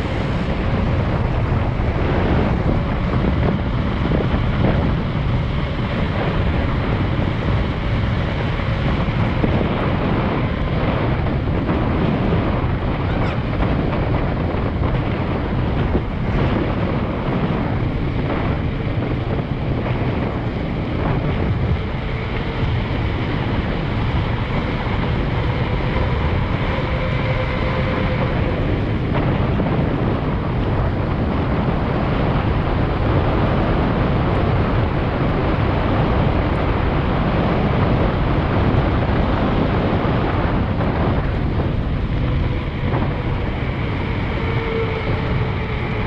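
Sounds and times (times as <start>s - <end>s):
bike tyres rolling on asphalt: 0.0s - 46.0s
wind rush on microphone: 0.0s - 46.0s.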